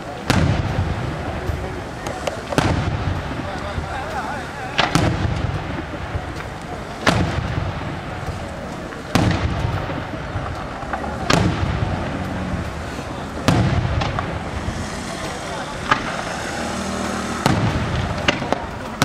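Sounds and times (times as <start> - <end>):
fireworks bangs: 0.0 - 19.0
low rumbling echo: 0.0 - 19.0.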